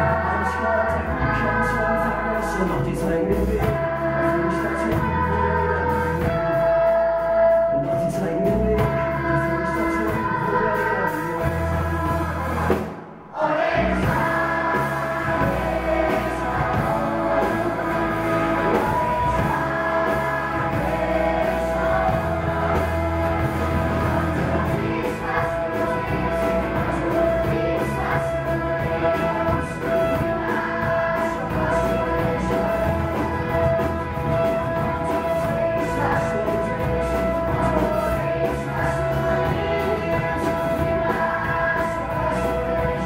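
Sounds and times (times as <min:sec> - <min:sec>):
choir singing: 0:00.0 - 0:02.9, 0:09.2 - 0:43.0
band playing pop music: 0:00.0 - 0:43.0.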